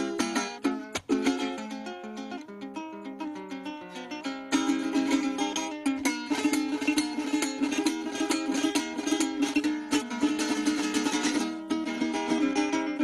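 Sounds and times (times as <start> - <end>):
small guitar strummed: 0.0 - 13.0.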